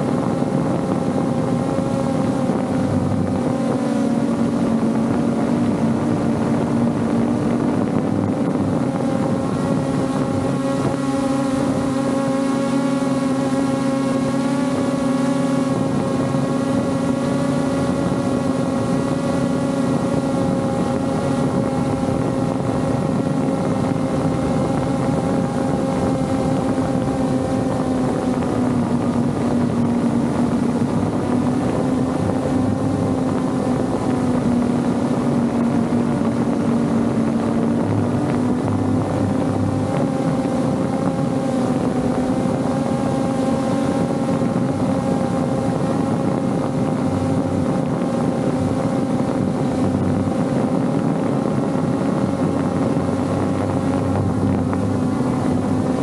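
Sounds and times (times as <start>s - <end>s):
drone motors humming: 0.0s - 56.0s
wind noise on microphone: 0.0s - 56.0s.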